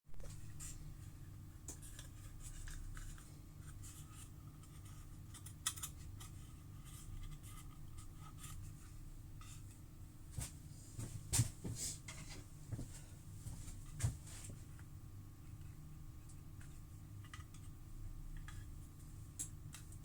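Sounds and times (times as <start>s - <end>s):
low steady hum: 0.1s - 20.0s.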